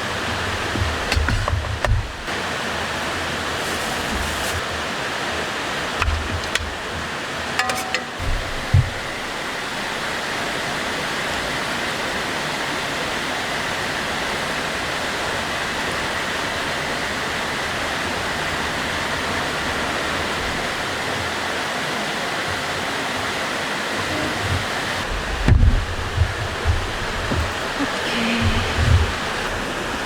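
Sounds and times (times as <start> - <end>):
stream rushing: 0.0 - 30.0.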